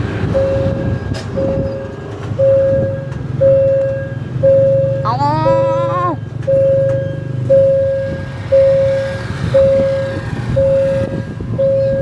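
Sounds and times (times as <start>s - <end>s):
level crossing alarm tone: 0.2s - 12.0s.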